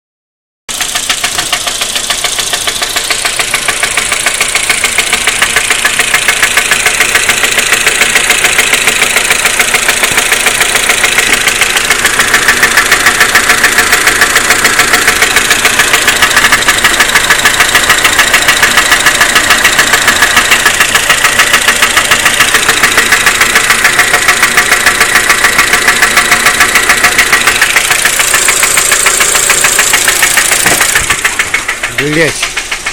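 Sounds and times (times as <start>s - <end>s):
car engine running with knock: 0.7s - 32.9s.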